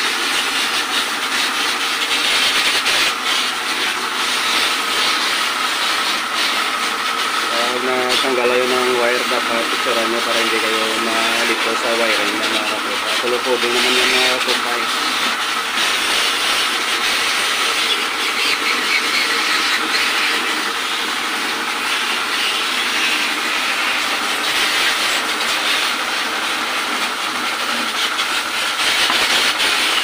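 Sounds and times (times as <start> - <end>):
pressure washer jet hissing: 0.0 - 30.0.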